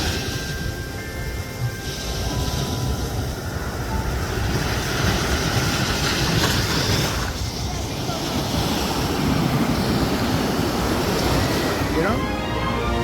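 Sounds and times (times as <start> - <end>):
surf washing onto sand: 0.0 - 0.9, 1.8 - 12.3
wind buffeting microphone: 0.0 - 12.1.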